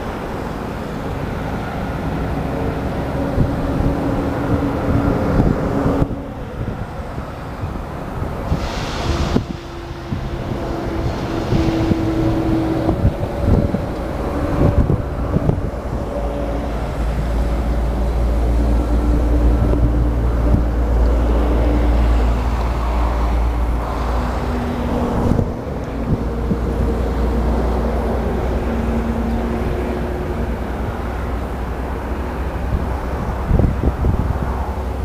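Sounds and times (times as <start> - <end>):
heavy diesel machinery droning: 0.0 - 35.0
wind buffeting microphone: 0.0 - 35.0.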